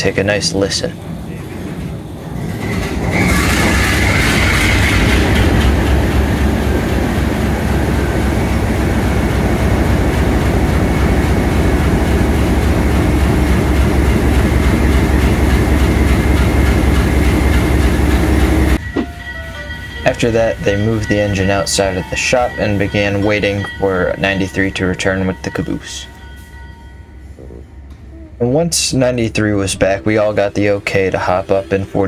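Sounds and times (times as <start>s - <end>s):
locomotive diesel engine starting: 0.0s - 26.5s, 27.2s - 32.0s
thin high whine: 0.0s - 32.0s.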